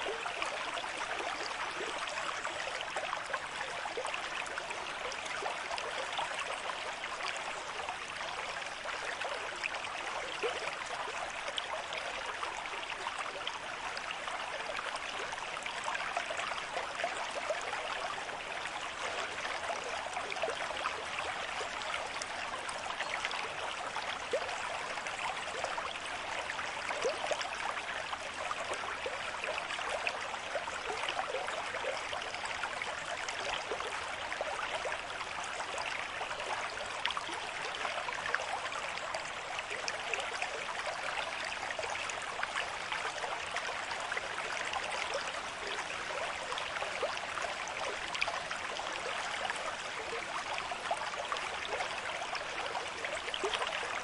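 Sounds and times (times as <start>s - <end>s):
river stream flowing: 0.0s - 54.0s.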